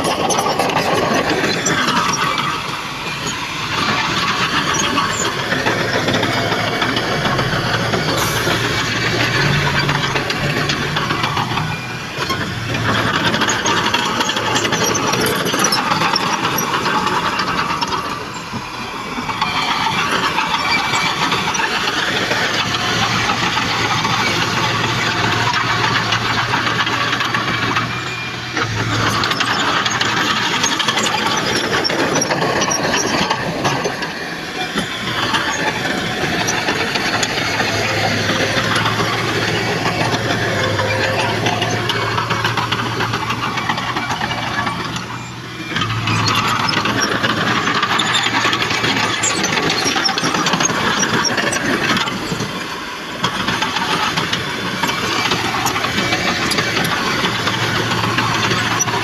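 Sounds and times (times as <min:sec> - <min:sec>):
diesel machinery engine under load: 0:00.0 - 0:59.0
machinery rattling and clanking: 0:00.0 - 0:59.0.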